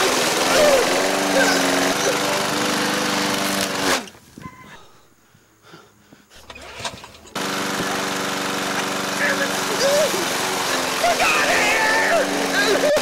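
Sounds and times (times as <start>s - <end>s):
lawn mower engine running: 0.0s - 4.1s, 6.4s - 13.0s.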